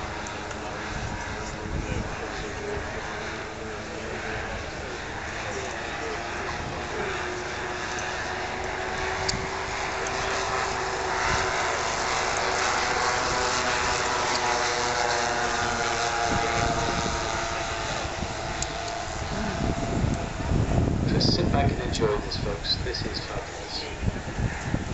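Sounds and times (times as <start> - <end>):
model plane propeller engines droning: 0.0 - 24.9.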